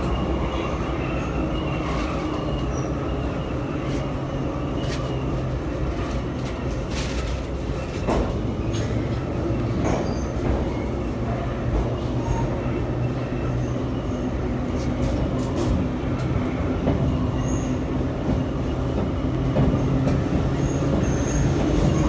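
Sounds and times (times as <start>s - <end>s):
metro car rumble: 0.0s - 22.0s.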